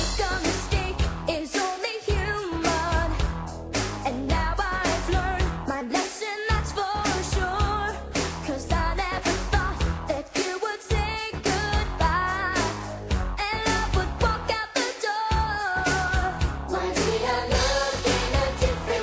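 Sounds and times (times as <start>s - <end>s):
pop song with drum beat: 0.0s - 19.0s.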